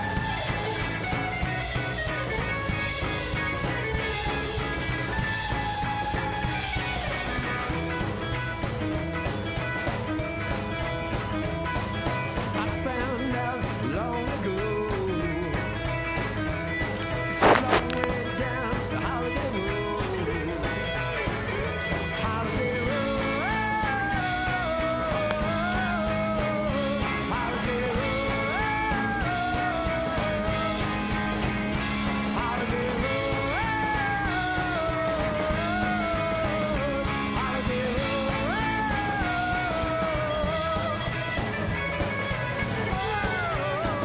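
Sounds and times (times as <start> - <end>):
rock music: 0.0 - 44.0.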